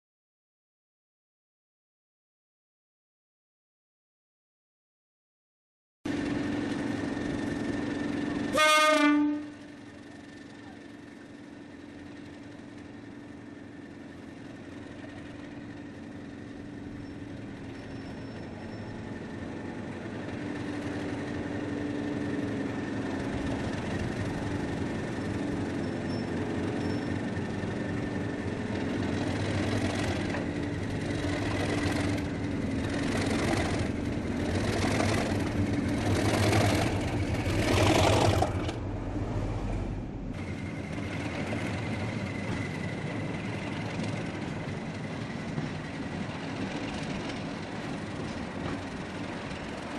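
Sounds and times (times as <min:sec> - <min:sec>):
diesel locomotive engine: 0:06.1 - 0:49.9.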